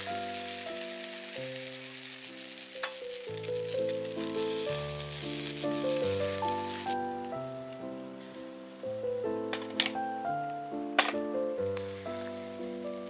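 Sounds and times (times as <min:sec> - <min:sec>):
chicken wings sizzling on grill: 0:00.0 - 0:13.0
melodic background music: 0:00.0 - 0:13.0.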